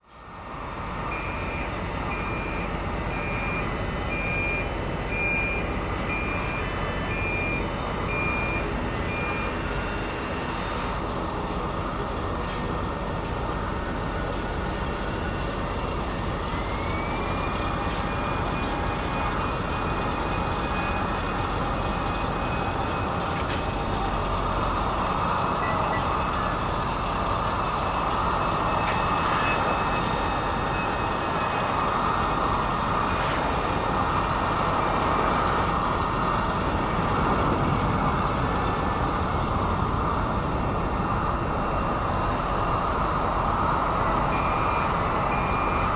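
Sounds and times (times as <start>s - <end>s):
vehicle and engine noise: 0.0s - 45.9s
high-pitched whine: 0.1s - 45.9s
reversing beeper: 0.3s - 12.9s, 13.5s - 45.9s.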